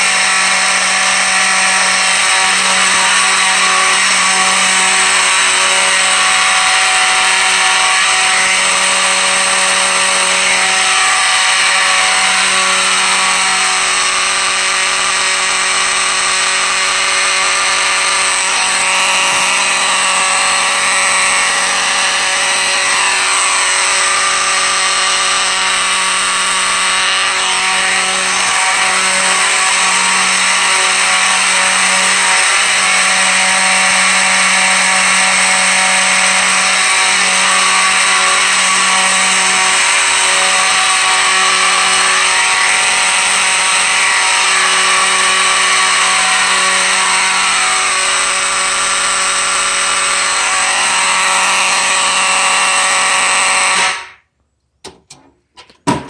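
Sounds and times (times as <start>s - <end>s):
raspy buzzing alarm horn: 0.0s - 54.3s.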